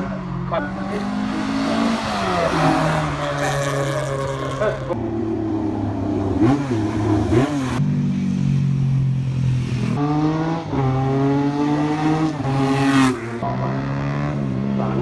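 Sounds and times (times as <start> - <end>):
rally car engine revving: 0.0 - 5.1, 5.7 - 7.8, 9.8 - 15.0.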